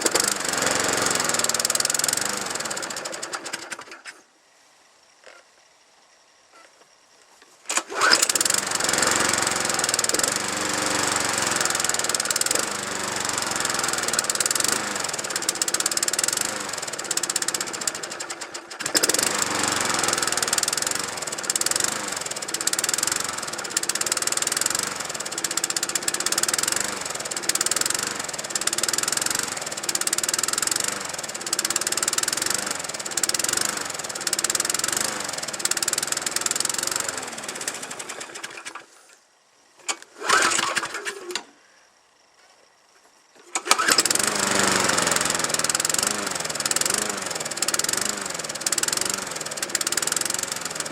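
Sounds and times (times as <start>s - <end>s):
lawnmower engine running: 0.0s - 4.1s, 7.6s - 39.2s, 39.8s - 41.5s, 43.4s - 50.9s.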